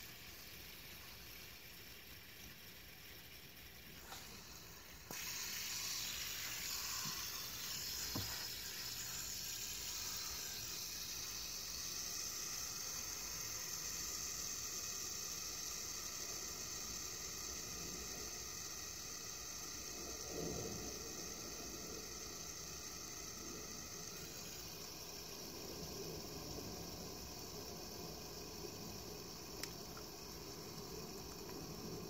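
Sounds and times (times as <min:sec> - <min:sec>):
fidget spinner whirring: 0:00.0 - 0:32.0.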